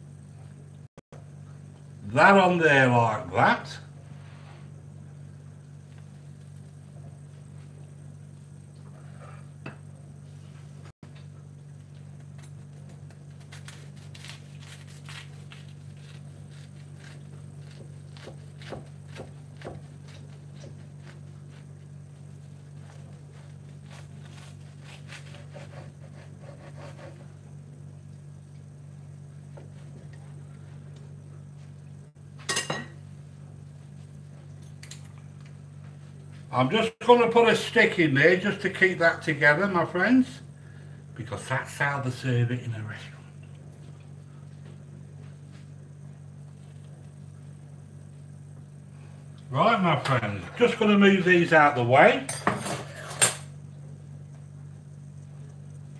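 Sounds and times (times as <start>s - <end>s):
low kitchen hum: 0.0s - 55.9s.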